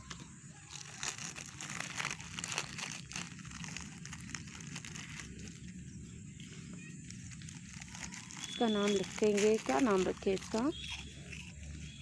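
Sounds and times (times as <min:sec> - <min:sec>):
crinkling crackling rustle: 0:00.0 - 0:12.0.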